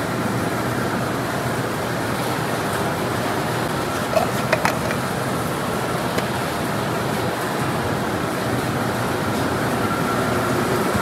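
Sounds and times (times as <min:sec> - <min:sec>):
fans whirring: 0:00.0 - 0:11.0.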